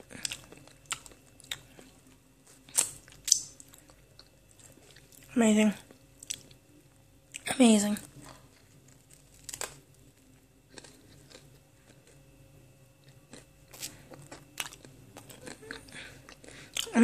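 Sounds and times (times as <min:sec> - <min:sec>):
mouth chewing crunchy food: 0:00.0 - 0:06.6, 0:07.3 - 0:12.4, 0:13.0 - 0:17.0.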